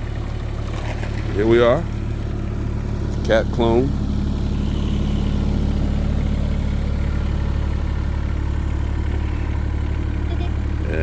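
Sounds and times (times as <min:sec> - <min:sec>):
excavator engine idling: 0:00.0 - 0:11.0.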